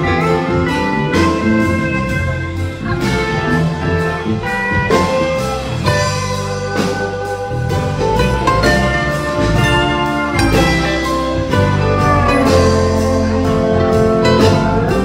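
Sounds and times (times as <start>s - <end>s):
live band instrumental: 0.0s - 15.0s.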